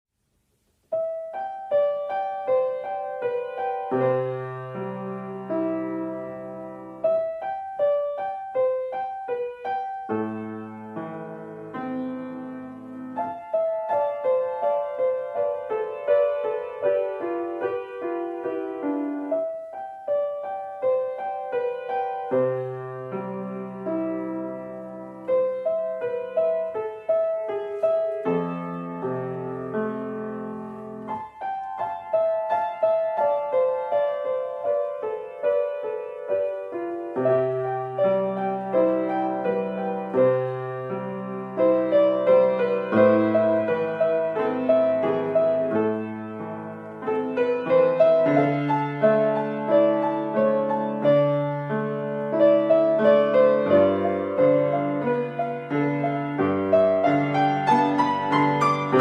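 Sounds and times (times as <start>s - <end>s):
piano chord and single notes: 0.2s - 59.0s.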